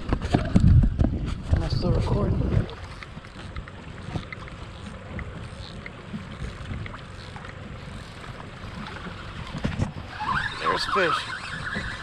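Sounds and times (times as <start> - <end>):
water lapping against boat hull: 0.0 - 12.0
wind on microphone: 0.0 - 12.0.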